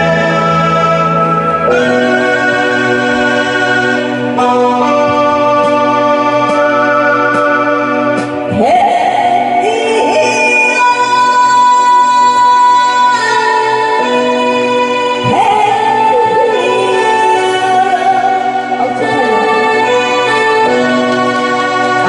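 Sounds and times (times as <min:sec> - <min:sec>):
electronic organ keyboard: 0:00.0 - 0:22.0
person singing: 0:00.0 - 0:22.0.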